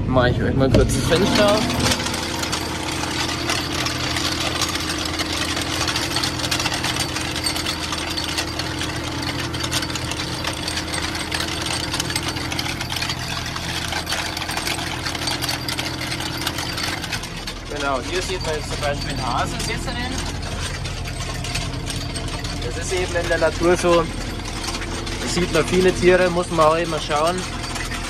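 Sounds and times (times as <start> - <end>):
tractor diesel engine under load: 0.0 - 28.0
chain harrow clinking rattle: 0.8 - 28.0.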